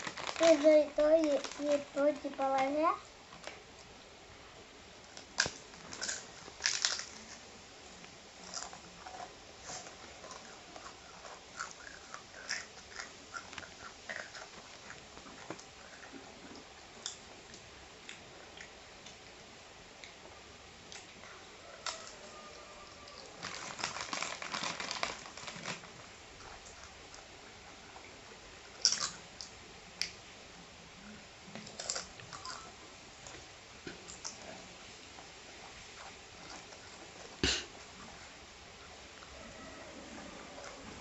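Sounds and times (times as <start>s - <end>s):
food chewing and crunching: 0.0s - 4.0s, 5.0s - 30.2s, 31.1s - 41.0s.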